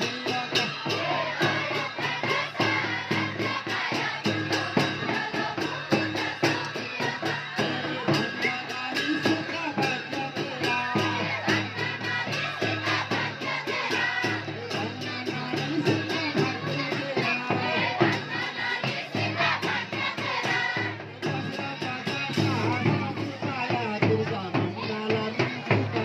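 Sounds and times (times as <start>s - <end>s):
group of voices singing: 0.0s - 26.0s.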